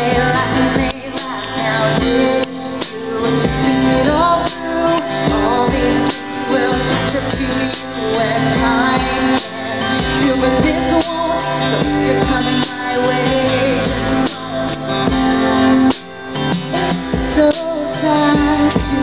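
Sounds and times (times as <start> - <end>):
strummed acoustic guitars: 0.0 - 19.0
woman singing: 0.0 - 19.0.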